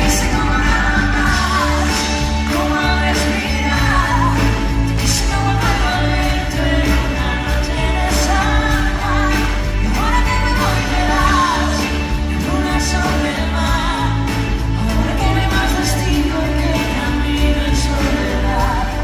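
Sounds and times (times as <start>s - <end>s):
live pop-rock band: 0.0s - 19.0s
person singing: 0.0s - 19.0s.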